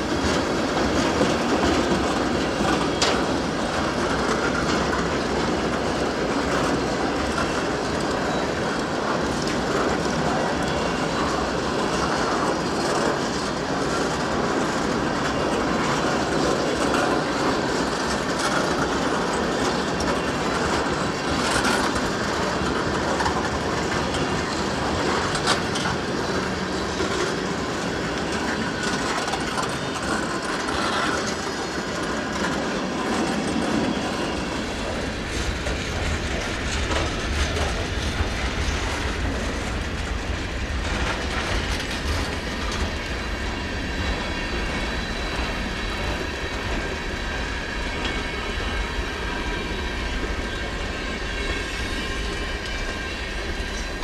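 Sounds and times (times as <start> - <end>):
rail joint clicks: 0.0 - 54.0
train wheels rumbling on rails: 0.0 - 54.0.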